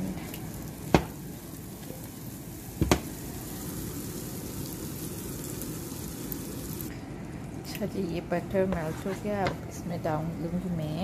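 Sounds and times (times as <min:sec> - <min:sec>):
butter sizzling in frying pan: 0:00.0 - 0:11.0.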